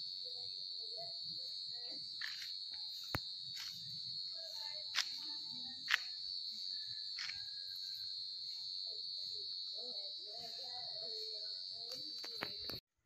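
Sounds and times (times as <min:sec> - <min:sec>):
high-pitched insect chorus: 0:00.0 - 0:12.8.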